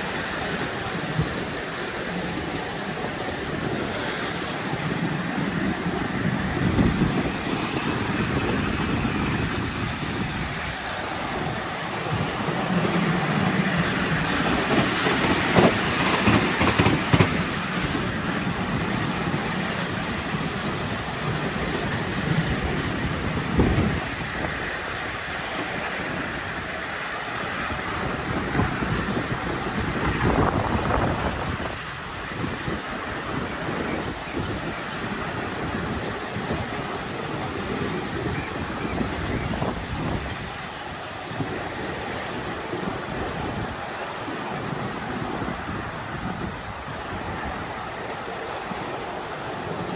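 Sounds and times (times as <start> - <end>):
miniature train wheels rumbling on rails: 0.0 - 49.9.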